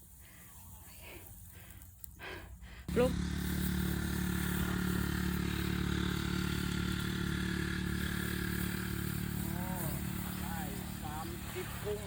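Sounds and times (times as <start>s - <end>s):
small engine running: 2.2s - 12.0s.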